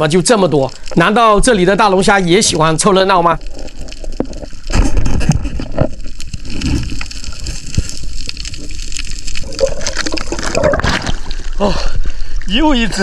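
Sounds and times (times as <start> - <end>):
water sloshing and gurgling: 0.0 - 13.0.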